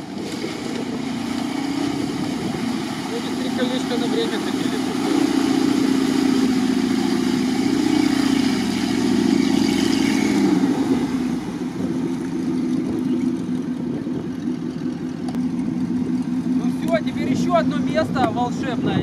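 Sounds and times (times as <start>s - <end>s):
engine working hard in mud: 0.0s - 19.0s
off-road vehicle engine running: 0.0s - 19.0s.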